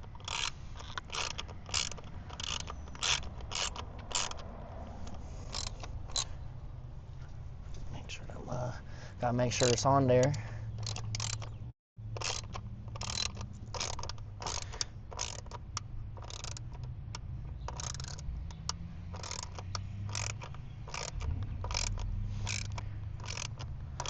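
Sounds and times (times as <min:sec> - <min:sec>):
hand ratchet clicking: 0:00.0 - 0:06.3, 0:09.5 - 0:24.0.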